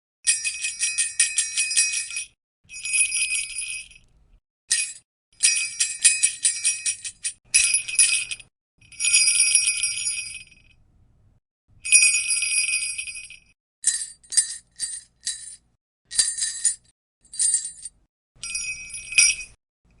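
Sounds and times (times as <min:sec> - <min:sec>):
sleigh bells jingling: 0:00.3 - 0:04.0, 0:04.7 - 0:10.6, 0:11.8 - 0:19.6.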